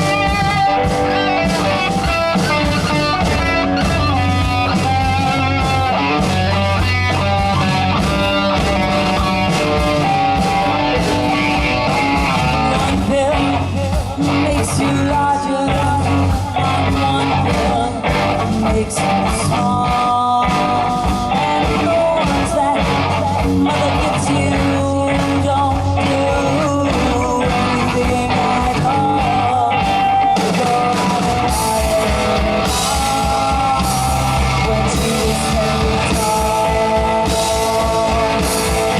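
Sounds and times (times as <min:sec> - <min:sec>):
bass guitar: 0:00.0 - 0:38.9
drums: 0:00.0 - 0:38.9
electric guitar: 0:00.0 - 0:38.9
lead vocal singing: 0:00.0 - 0:38.9.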